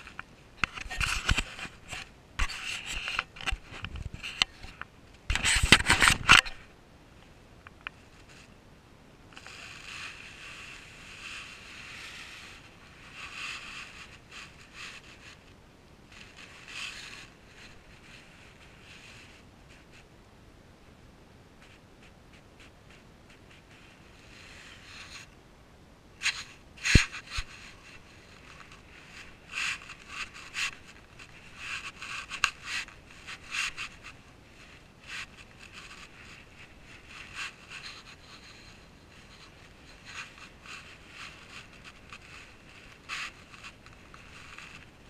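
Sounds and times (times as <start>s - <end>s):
scraping and rubbing: 0.0s - 6.6s, 9.4s - 15.5s, 16.1s - 20.0s, 21.6s - 25.3s, 26.2s - 45.0s.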